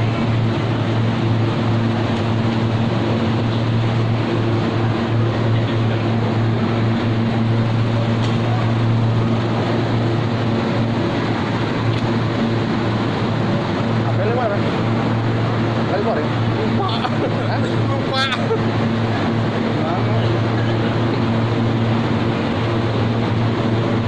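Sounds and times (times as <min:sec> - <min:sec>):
refrigeration machinery drone: 0:00.0 - 0:24.0.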